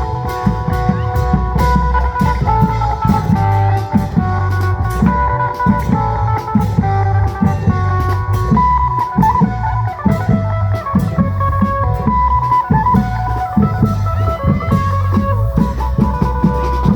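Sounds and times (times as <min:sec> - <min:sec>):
long drums and bass drum beating: 0:00.0 - 0:16.9.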